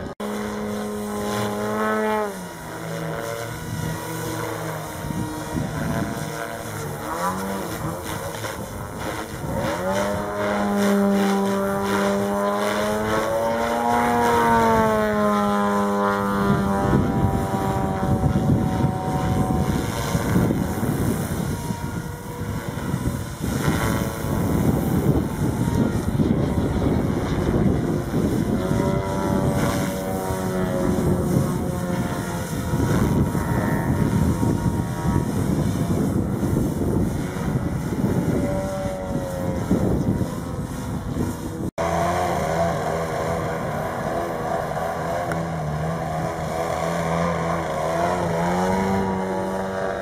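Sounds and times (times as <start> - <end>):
model helicopter whine: 0.0 - 50.0
rotor blades rushing: 0.0 - 50.0.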